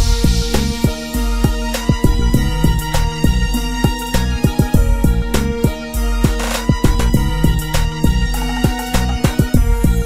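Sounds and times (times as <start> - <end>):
held chords: 0.0 - 10.0
low kick drums: 0.0 - 10.0
sharp hi-hat hits: 0.0 - 10.0.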